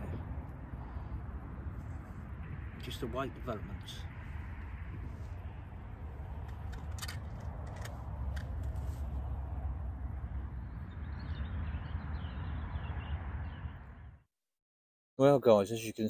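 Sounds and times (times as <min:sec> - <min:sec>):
wind rumble on microphone: 0:00.0 - 0:14.2.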